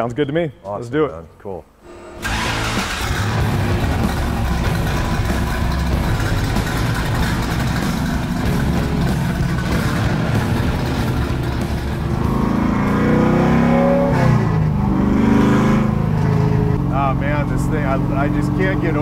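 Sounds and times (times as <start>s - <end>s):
car engine rumbling: 2.2s - 19.0s.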